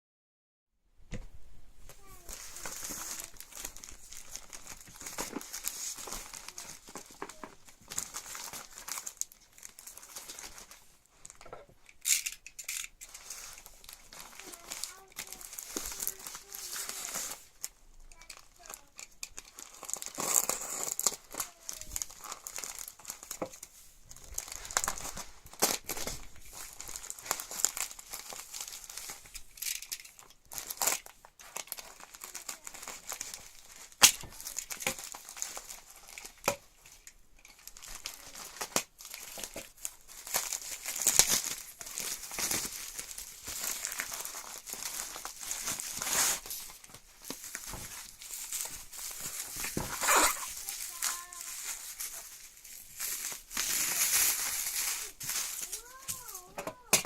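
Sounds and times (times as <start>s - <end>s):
packaging crinkling and rustling: 1.9s - 57.0s.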